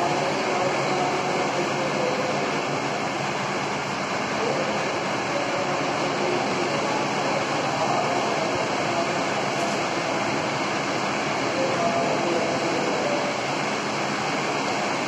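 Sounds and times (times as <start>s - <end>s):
electric wall fans rushing: 0.0s - 15.0s
faint indistinct voices: 0.0s - 15.0s.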